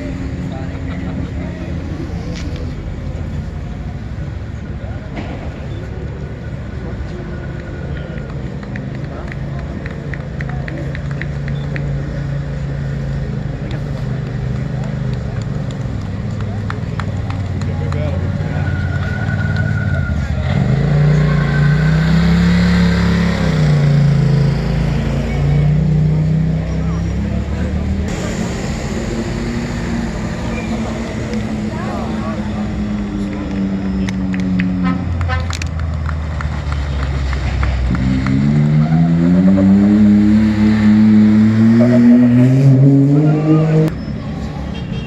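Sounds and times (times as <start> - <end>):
rally car engine accelerating: 6.4 - 44.0.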